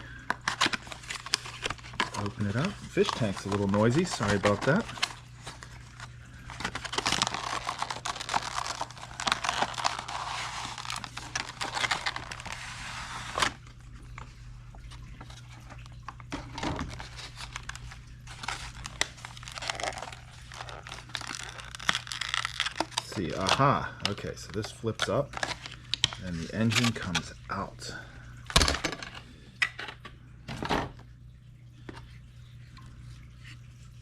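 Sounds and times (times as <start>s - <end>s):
fish tank hum: 0.0s - 24.4s, 25.1s - 34.0s
cardboard packaging crinkling and tearing: 0.0s - 27.4s.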